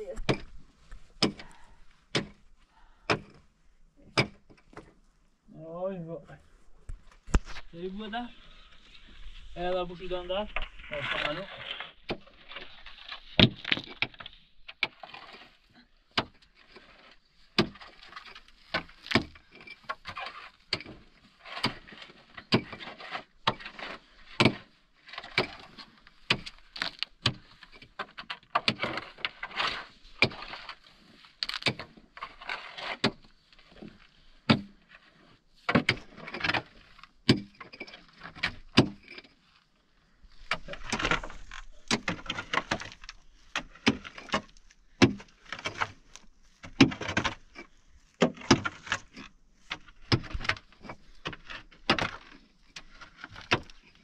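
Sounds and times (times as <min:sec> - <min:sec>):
digging tool striking earth: 0:00.0 - 0:02.4, 0:03.1 - 0:03.4, 0:04.0 - 0:04.9, 0:10.5 - 0:34.9, 0:35.7 - 0:39.3, 0:40.4 - 0:54.0
scraping loose soil: 0:06.9 - 0:54.0.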